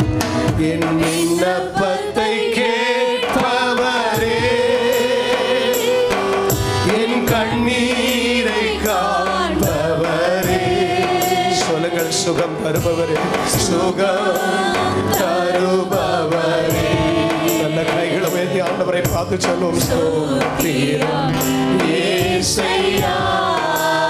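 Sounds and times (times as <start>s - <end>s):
instrumental accompaniment: 0.0s - 24.0s
percussion beat: 0.0s - 24.0s
congregation singing: 0.4s - 24.0s.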